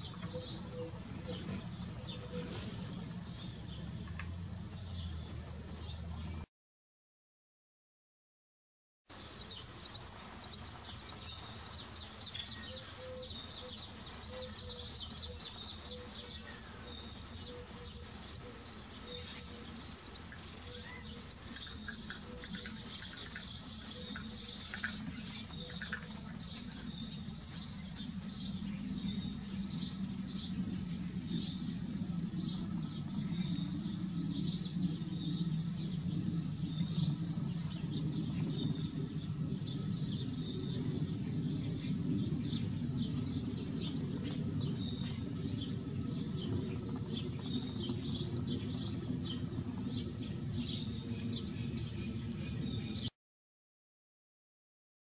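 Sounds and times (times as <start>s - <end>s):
steady low rumble: 0.0s - 6.4s, 9.7s - 53.0s
small birds chirping: 0.0s - 6.5s, 9.1s - 53.1s.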